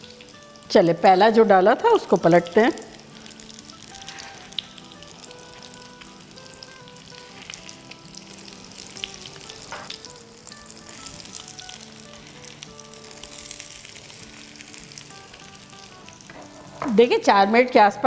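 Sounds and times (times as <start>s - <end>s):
fish sizzling in a frying pan: 0.0s - 17.1s
soft background music: 0.0s - 18.0s.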